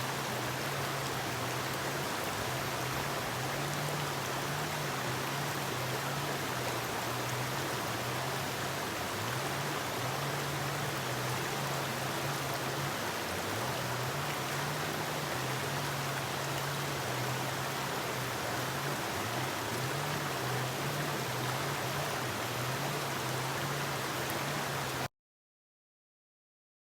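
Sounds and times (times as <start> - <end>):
river water rushing: 0.0 - 25.1.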